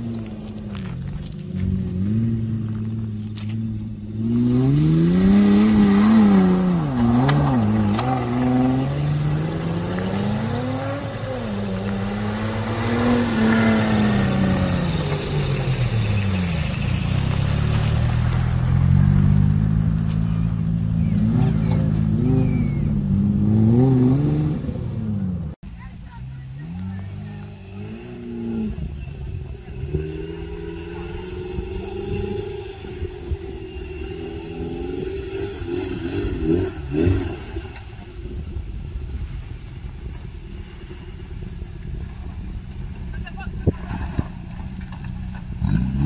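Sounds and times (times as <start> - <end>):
off-road vehicle engine revving: 0.0 - 39.2, 42.9 - 46.0.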